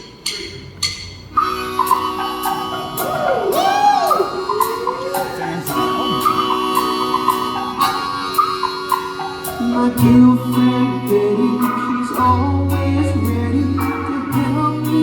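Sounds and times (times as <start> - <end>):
live band playing: 0.0 - 15.0
swooping pitch glide: 1.3 - 15.0.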